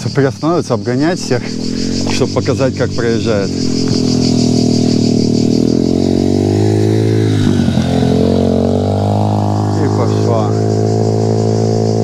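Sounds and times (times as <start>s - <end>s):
dirt bike engines running: 0.0s - 12.0s
dirt bike passing by: 0.0s - 12.0s.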